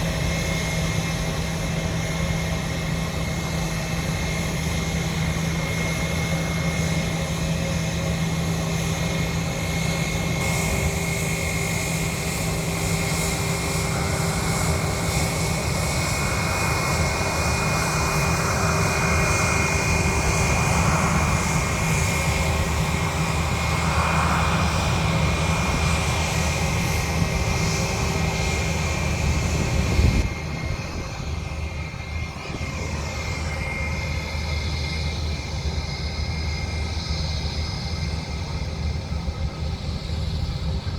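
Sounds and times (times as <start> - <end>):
airplane engines droning: 0.0 - 40.9.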